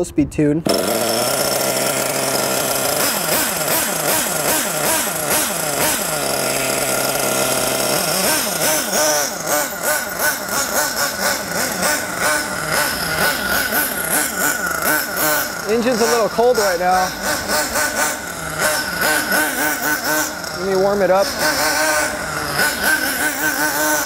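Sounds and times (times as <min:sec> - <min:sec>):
small engine revving: 0:00.6 - 0:24.0.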